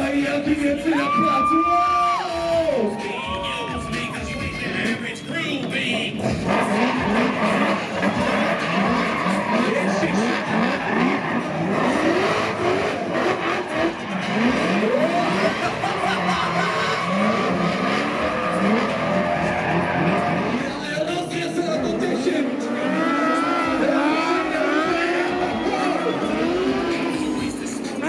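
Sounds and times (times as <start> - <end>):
car engines revving hard: 0.0 - 28.0
tyres squealing and skidding: 0.0 - 28.0.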